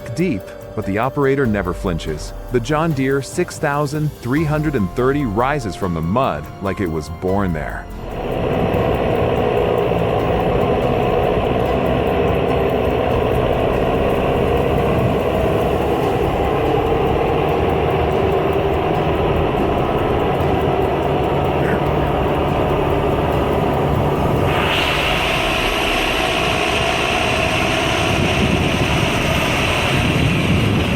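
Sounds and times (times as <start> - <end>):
tractor engine under load: 1.0 - 30.9.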